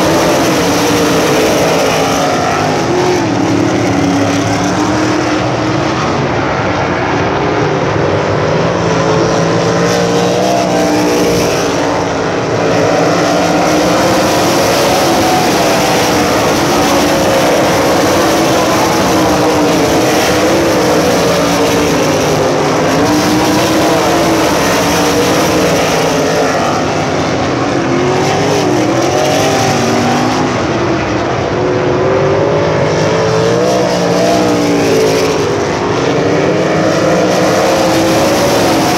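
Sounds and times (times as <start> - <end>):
race car engines: 0.0 - 38.9.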